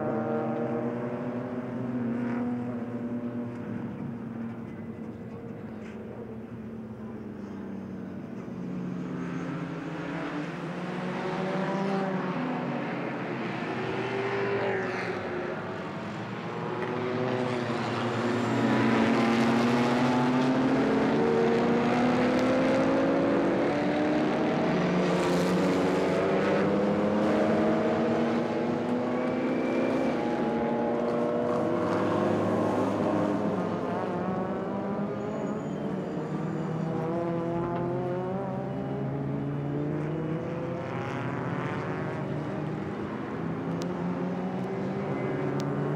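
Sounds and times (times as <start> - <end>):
racing car engines passing: 0.0 - 4.7, 5.8 - 45.9.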